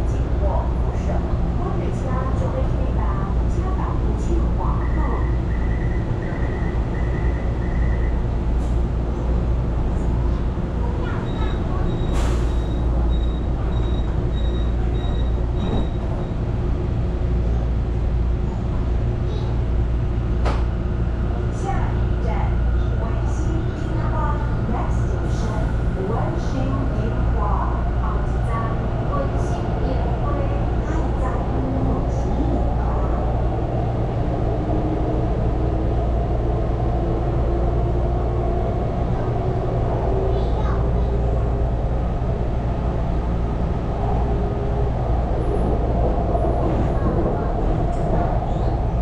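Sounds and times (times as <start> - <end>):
train low hum: 0.0 - 49.0.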